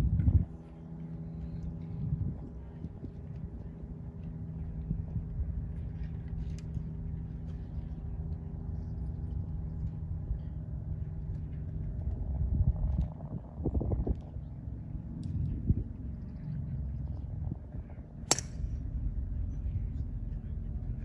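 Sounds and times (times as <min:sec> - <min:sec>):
engine running steadily: 0:00.0 - 0:21.0
wind rumble on microphone: 0:00.0 - 0:21.0.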